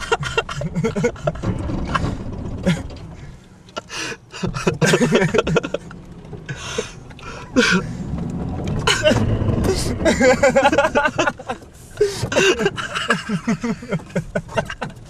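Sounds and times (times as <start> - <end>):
pickup truck rumble: 0.0 - 15.0.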